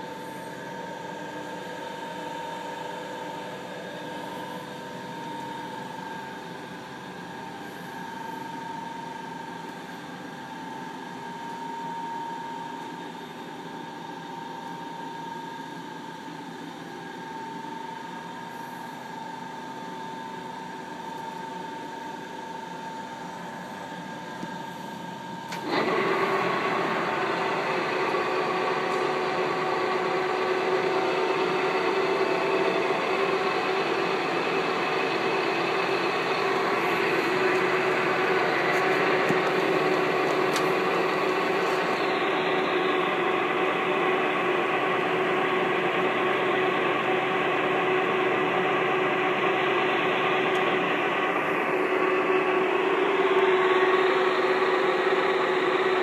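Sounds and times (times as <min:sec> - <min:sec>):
lathe running with gear whine: 0:00.0 - 0:56.0.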